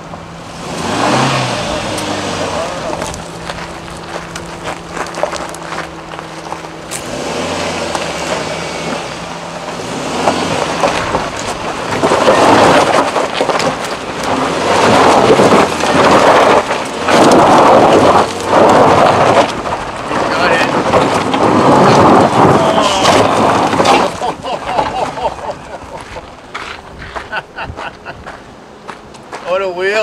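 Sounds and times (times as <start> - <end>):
engine pulling under load: 0.0 - 30.0
tyres scrabbling on loose stones: 1.9 - 9.0, 9.6 - 27.8.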